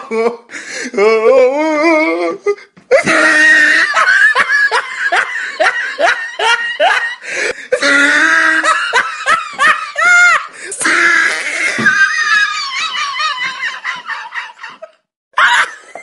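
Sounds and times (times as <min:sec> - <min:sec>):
person laughing: 0:02.9 - 0:16.0.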